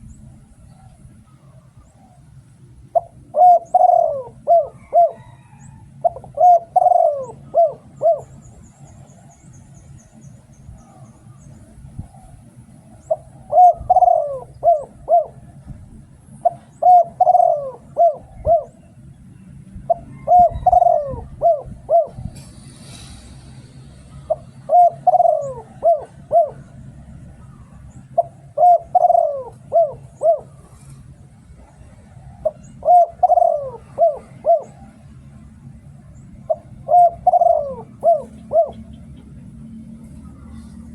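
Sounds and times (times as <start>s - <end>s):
dove cooing: 0.6s - 9.0s, 12.0s - 18.9s, 19.7s - 22.6s, 24.2s - 40.9s.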